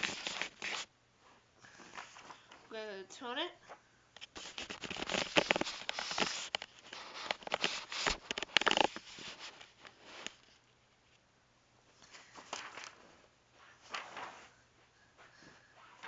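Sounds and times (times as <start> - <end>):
handling noise rustling and scraping: 0.0 - 2.7, 4.2 - 11.2, 12.1 - 16.0.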